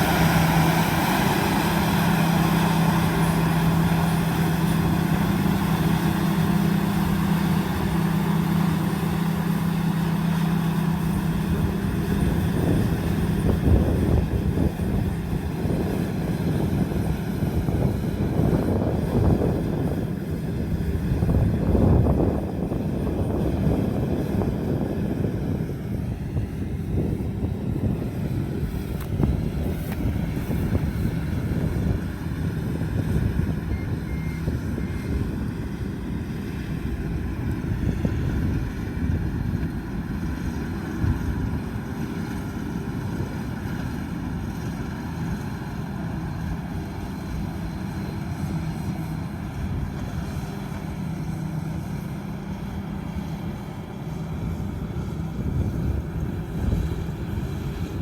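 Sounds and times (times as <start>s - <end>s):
combine harvester engine running: 0.0s - 58.0s.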